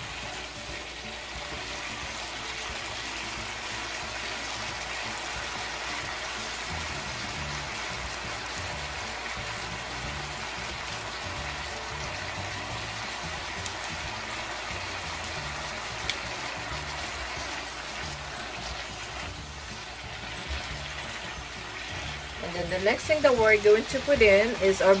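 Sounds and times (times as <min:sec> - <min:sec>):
meat sizzling in a skillet: 0:00.0 - 0:25.0
soft background music: 0:00.0 - 0:25.0.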